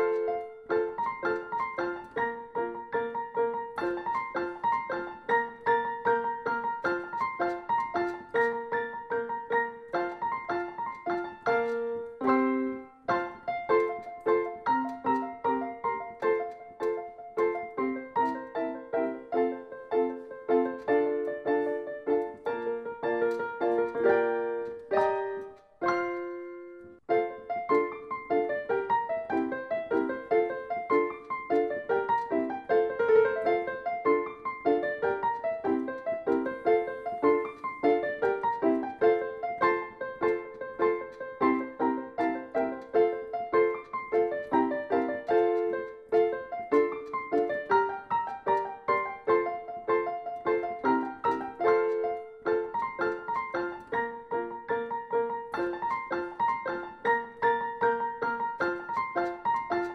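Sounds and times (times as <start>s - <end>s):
background piano music: 0.0s - 59.9s.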